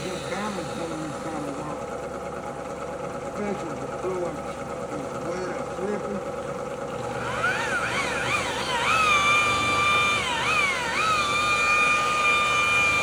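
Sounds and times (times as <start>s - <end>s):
rotary buffer motor whining: 0.0s - 13.0s.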